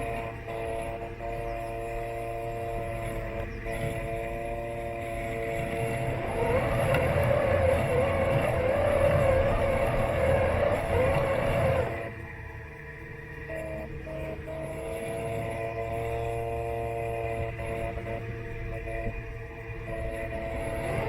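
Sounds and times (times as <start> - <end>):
electric motors whining: 0.0 - 21.0
hum with wavering pitch: 0.0 - 21.0.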